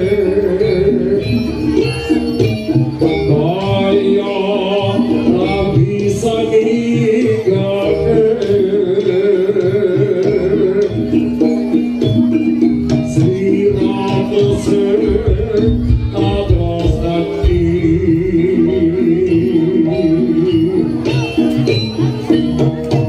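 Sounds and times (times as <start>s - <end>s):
hand drums beating: 0.0s - 23.0s.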